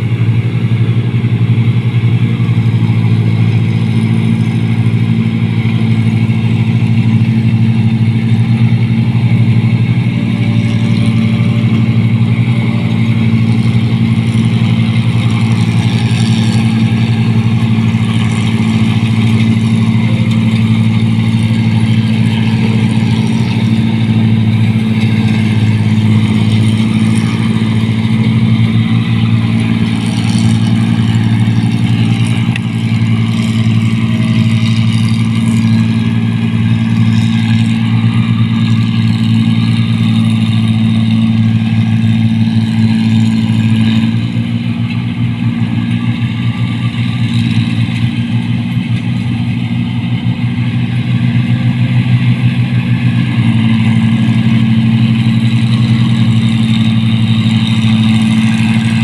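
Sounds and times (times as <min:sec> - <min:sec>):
diesel engine droning: 0:00.0 - 0:59.0
machinery clattering: 0:00.0 - 0:59.0.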